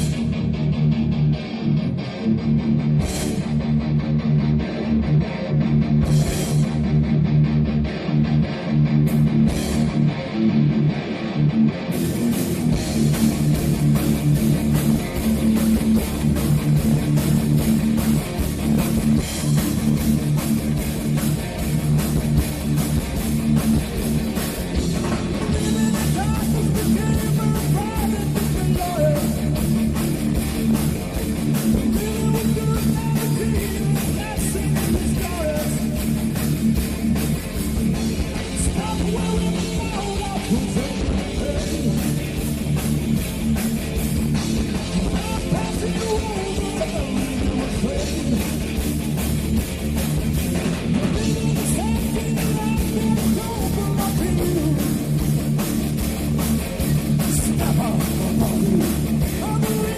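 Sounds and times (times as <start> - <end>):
electric guitar riff: 0.0 - 59.9
heavy metal band playing live: 0.0 - 59.9.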